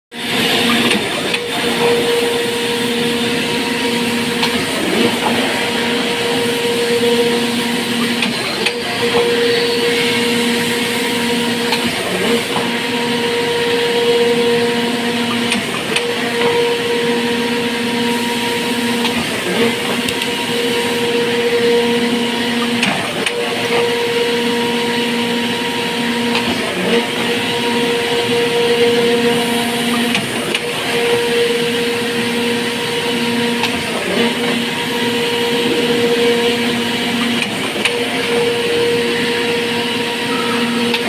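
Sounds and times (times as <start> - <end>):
surface grinder grinding metal: 0.3 - 41.0.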